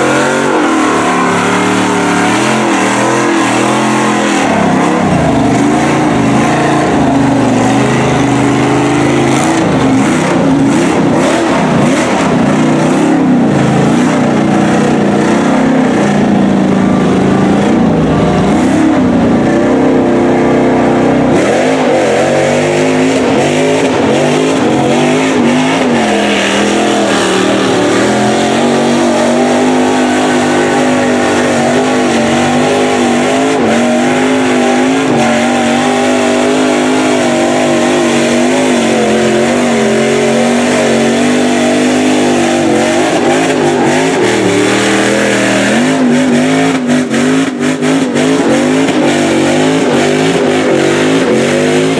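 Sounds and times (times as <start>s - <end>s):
truck churning through water and mud: 0.0s - 51.9s
truck engine revving: 0.0s - 51.9s.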